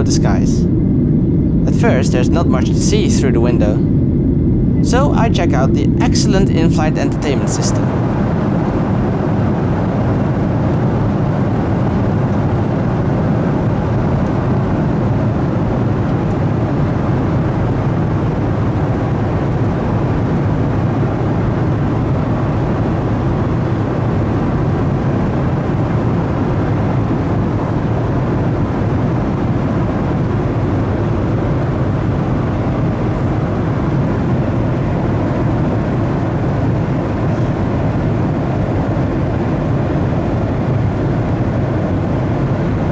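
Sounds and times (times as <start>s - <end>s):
airplane cabin engine rush: 0.0s - 42.9s.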